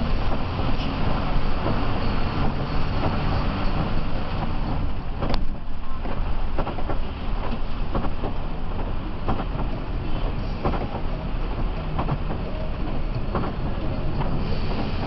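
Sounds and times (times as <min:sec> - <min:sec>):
bus cabin drone and road noise: 0:00.0 - 0:15.0.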